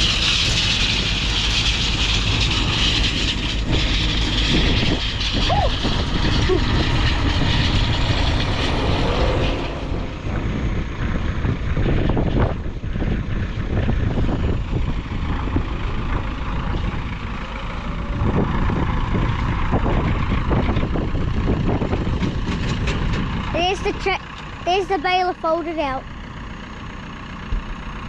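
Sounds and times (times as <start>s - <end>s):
engine running roughly: 0.0s - 28.0s.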